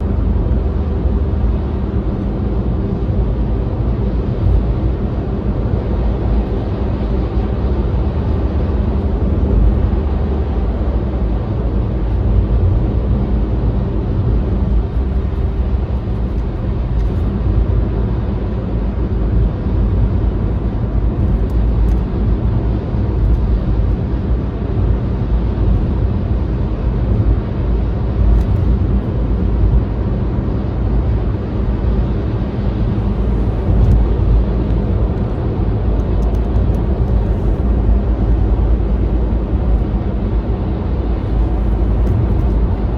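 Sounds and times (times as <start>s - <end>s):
faint engine hum: 0.0s - 42.9s
vehicle road noise rumble: 0.0s - 42.9s.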